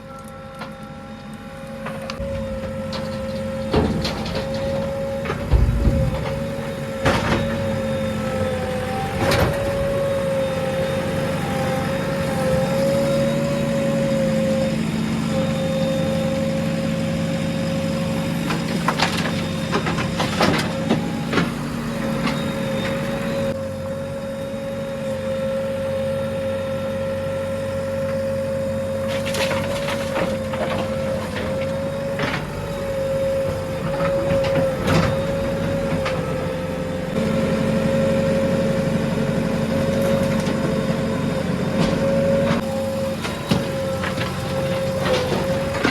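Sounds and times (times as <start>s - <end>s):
constant hum: 0.0s - 45.9s
diesel engine running: 0.0s - 45.9s.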